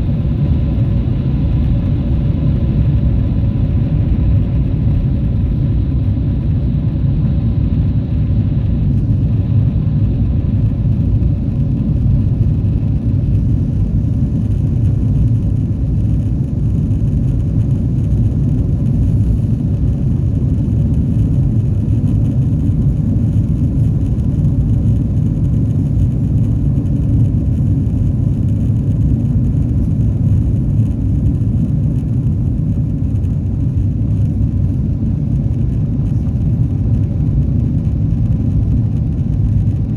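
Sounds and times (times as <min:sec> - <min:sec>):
faint engine whine: 0:00.0 - 0:39.9
jet engines rumbling in cabin: 0:00.0 - 0:39.9.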